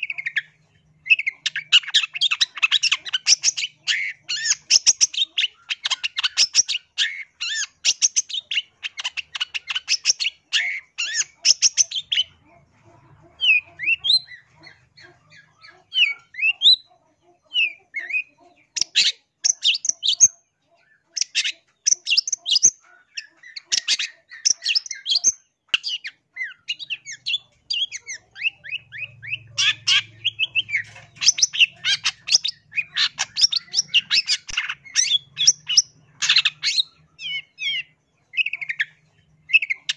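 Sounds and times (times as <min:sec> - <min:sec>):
bird harsh chattering song: 0:00.0 - 0:39.9.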